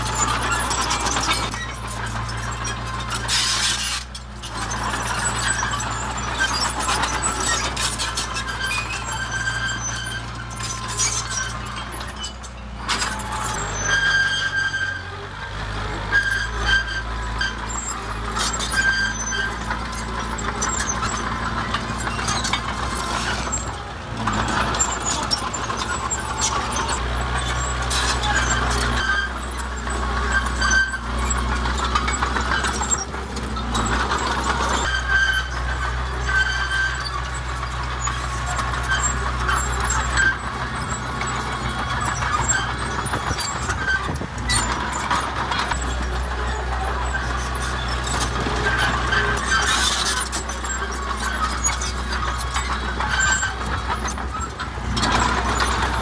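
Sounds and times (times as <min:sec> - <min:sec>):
heavy diesel machinery rumbling: 0:00.0 - 0:56.0
high metallic squeals: 0:00.0 - 0:56.0.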